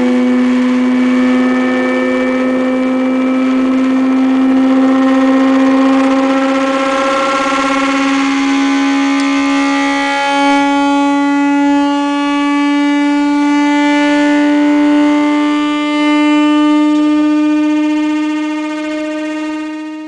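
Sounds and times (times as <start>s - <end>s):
rising buzzy tone from loudspeaker: 0.0s - 20.0s.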